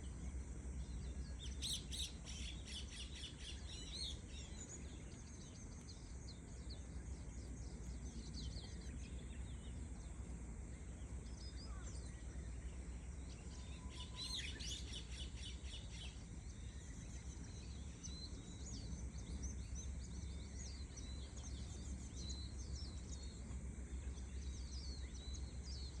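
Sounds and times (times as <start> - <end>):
low outdoor rumble: 0.0 - 26.0
small birds chirping: 0.0 - 26.0.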